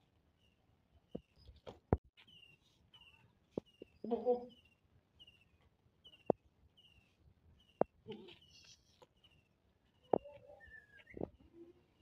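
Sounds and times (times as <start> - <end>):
small bird chirping: 0.4 - 12.0.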